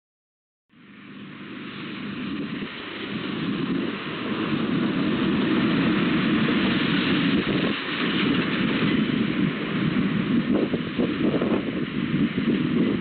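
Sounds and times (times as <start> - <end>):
rushing outdoor noise: 0.7 - 13.0.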